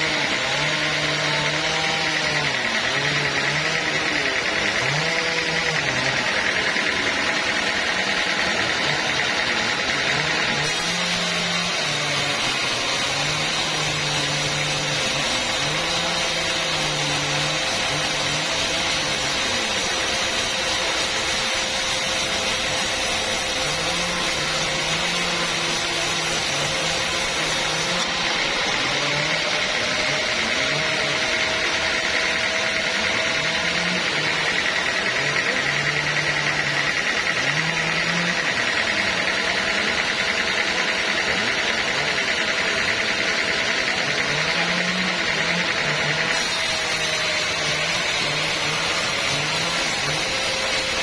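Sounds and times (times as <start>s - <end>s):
saw cutting log hiss: 0.0s - 51.0s
sawmill engine running: 0.0s - 51.0s.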